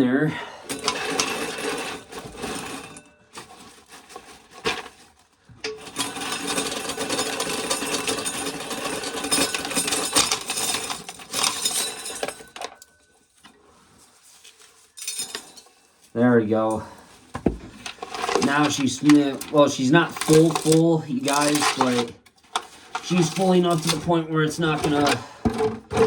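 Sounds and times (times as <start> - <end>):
corn kernels rattling in a pail: 0.6 - 17.0, 17.7 - 26.0.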